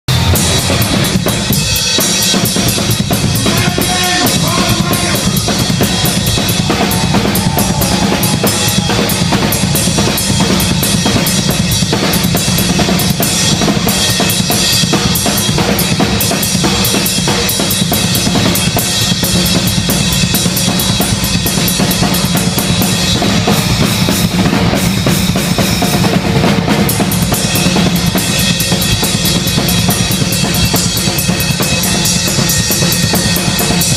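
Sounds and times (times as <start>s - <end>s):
rock drum solo: 0.1s - 33.9s.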